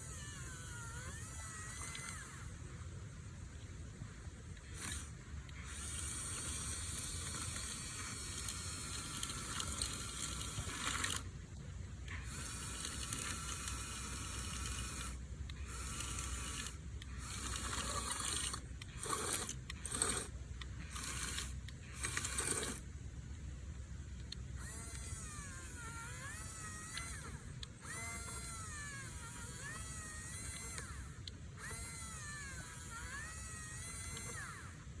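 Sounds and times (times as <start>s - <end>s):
electric motors whining: 0.0s - 23.2s, 24.0s - 35.0s.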